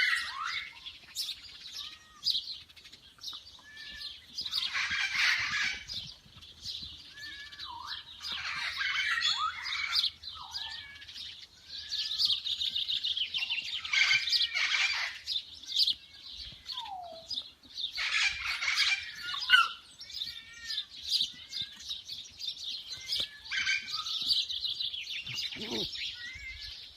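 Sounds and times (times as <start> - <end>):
small birds chirping and trilling: 0.0 - 26.9.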